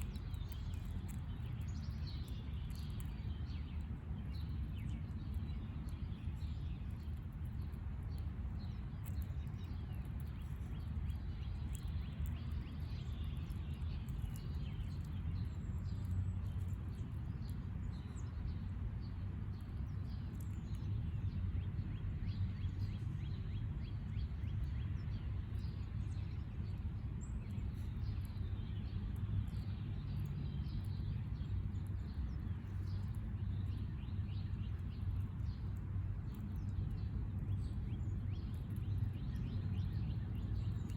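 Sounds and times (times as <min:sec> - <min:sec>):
small birds chirping: 0:00.0 - 0:40.9
steady low rumble: 0:00.0 - 0:40.9.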